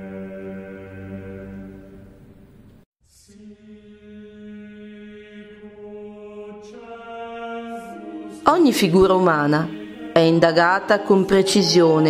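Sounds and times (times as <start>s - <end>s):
chant-like vocal music: 0.0s - 12.0s.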